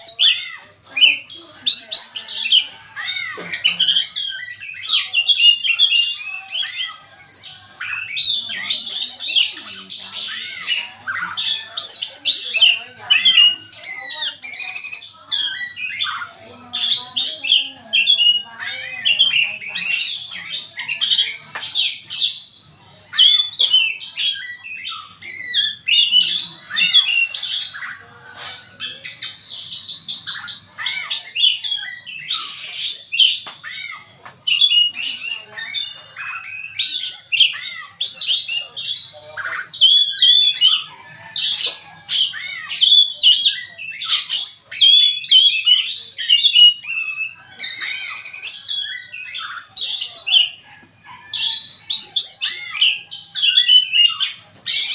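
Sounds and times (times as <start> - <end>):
songbird whistling and trilling: 3.8 - 54.9.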